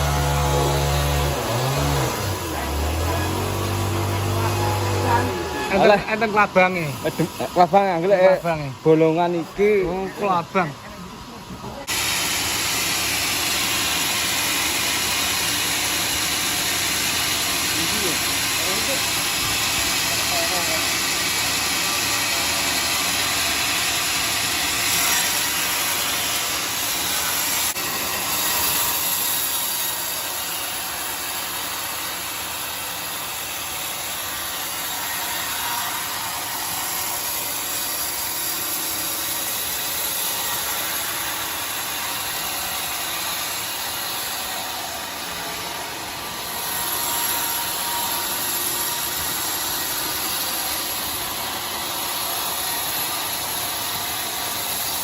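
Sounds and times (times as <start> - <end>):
bandsaw mill running: 0.0 - 55.0.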